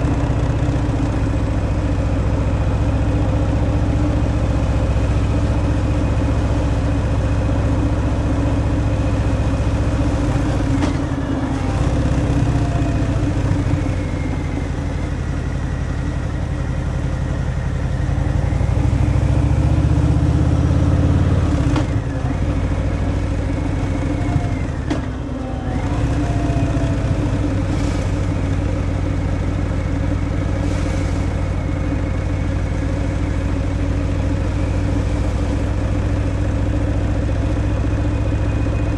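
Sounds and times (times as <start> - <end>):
motorcycle engine rumble: 0.0 - 38.9.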